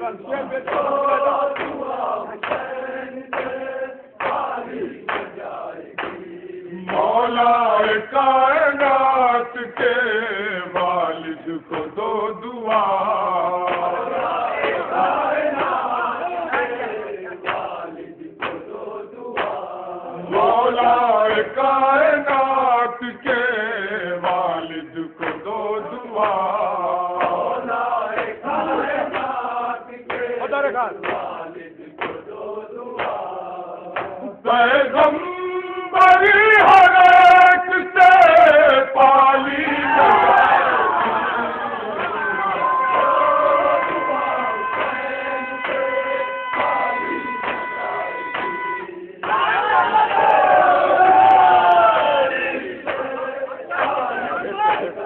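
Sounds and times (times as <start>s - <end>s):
men chanting a mourning lament: 0.0s - 55.0s.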